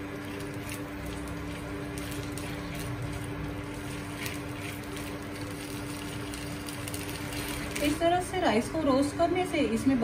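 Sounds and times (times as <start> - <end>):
induction cooktop hum: 0.0 - 10.0.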